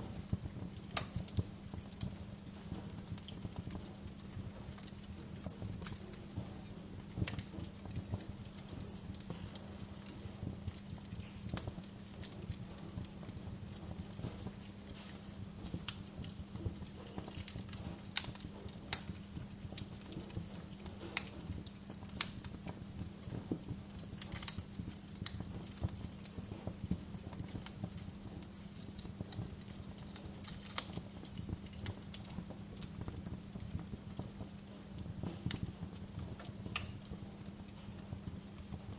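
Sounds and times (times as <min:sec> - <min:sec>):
fireplace crackling: 0:00.0 - 0:38.9.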